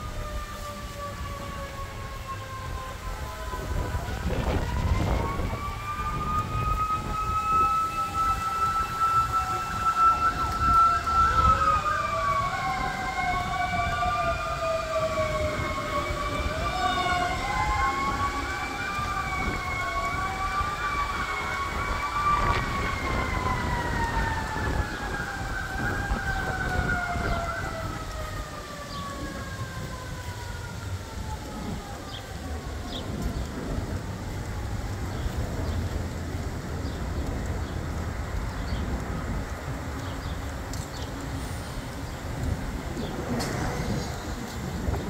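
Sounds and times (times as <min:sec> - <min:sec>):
siren wailing: 0:00.0 - 0:45.0.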